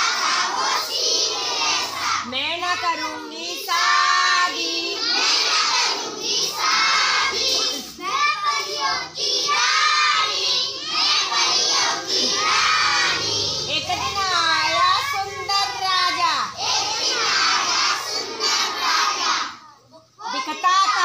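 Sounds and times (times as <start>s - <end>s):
children chanting and singing: 0.0s - 21.0s.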